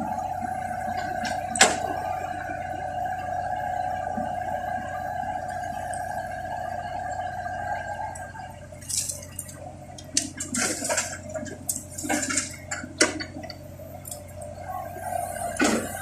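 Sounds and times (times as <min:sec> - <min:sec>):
low engine hum: 0:00.0 - 0:16.0
steady whine: 0:00.0 - 0:16.0.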